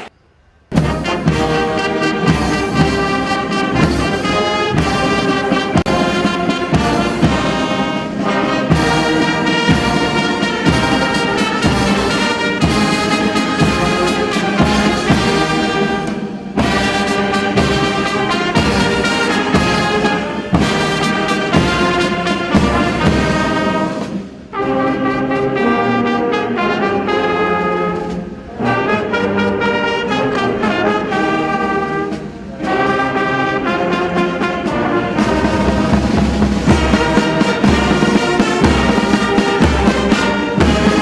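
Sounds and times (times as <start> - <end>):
brass band music: 0.7 - 41.0.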